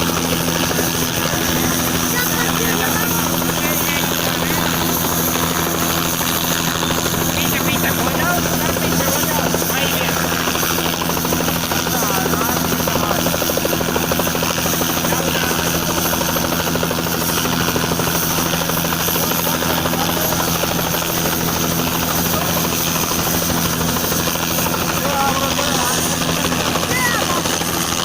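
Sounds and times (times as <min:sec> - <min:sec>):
helicopter rotor chop: 0:00.0 - 0:28.0.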